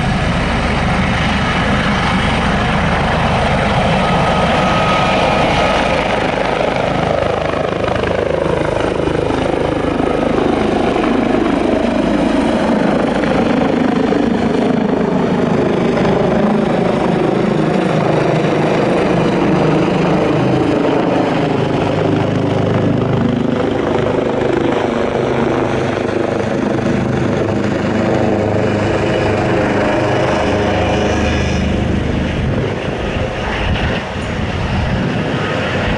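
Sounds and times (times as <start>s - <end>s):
helicopter lifting off: 0.0s - 35.9s.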